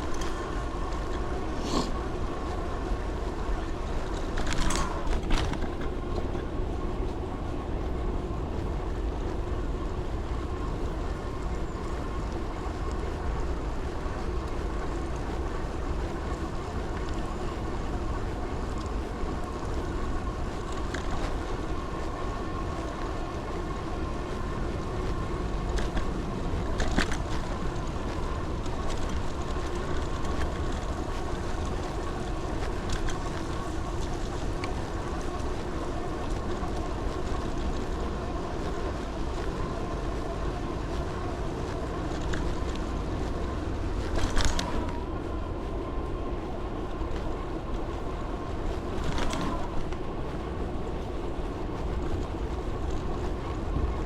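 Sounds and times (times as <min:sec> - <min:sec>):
vehicle low rumble: 0:00.0 - 0:54.0
wind buffeting microphone: 0:00.0 - 0:54.0.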